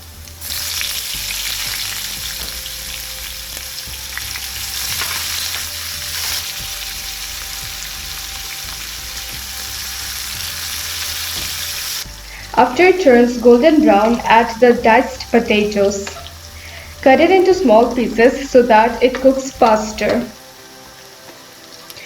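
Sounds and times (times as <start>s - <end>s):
onions sizzling in oil: 0.0s - 13.4s, 14.0s - 22.0s.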